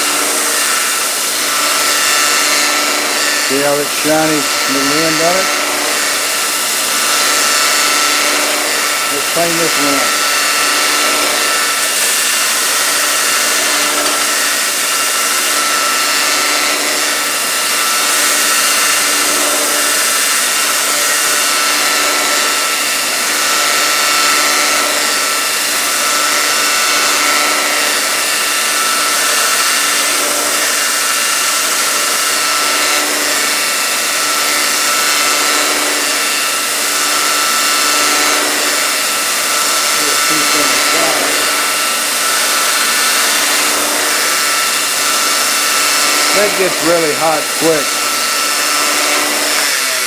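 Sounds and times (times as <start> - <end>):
belt grinder motor running: 0.0 - 50.0
steel grinding on abrasive belt: 0.0 - 50.0.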